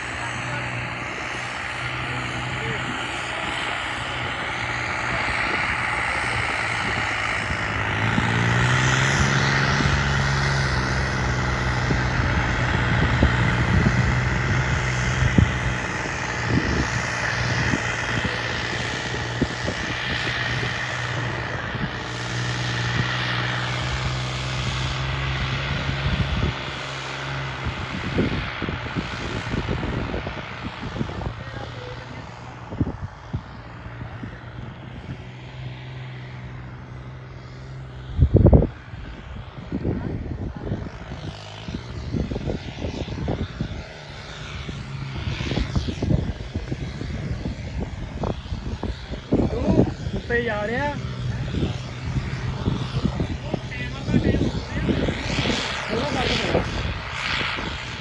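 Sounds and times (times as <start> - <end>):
tractor diesel engine under load: 0.0 - 58.0
turbocharger whine: 0.0 - 58.0.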